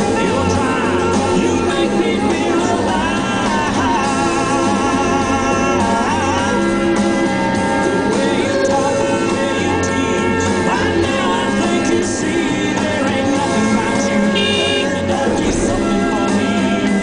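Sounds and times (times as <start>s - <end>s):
rock music with singing: 0.0s - 17.0s.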